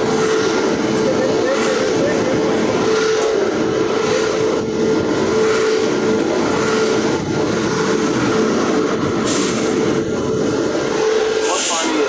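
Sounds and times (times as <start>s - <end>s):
train locomotive rumble: 0.0s - 12.0s.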